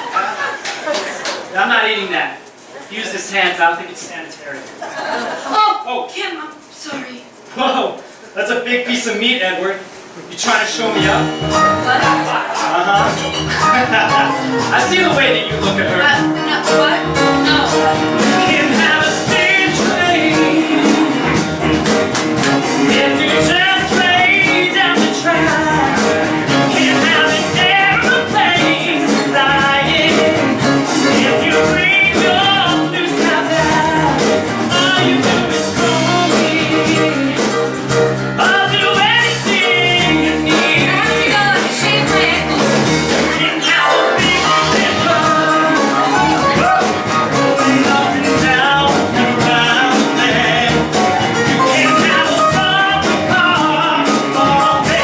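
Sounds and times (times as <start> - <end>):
live rock song with singing: 10.9 - 55.0.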